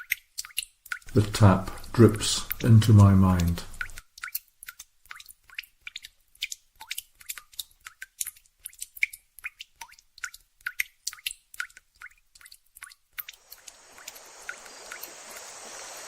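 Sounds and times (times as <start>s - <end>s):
tap dripping into water: 0.0s - 15.4s.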